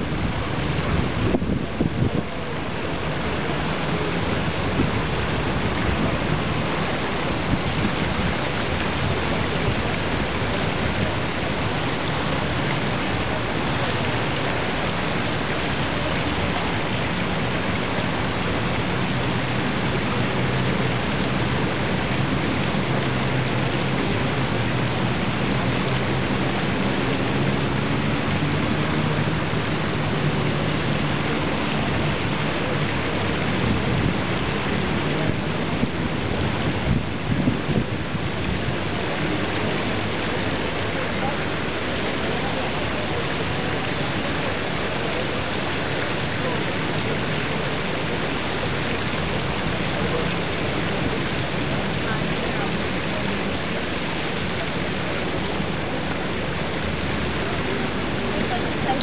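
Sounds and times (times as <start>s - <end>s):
steady rushing noise: 0.0s - 59.0s.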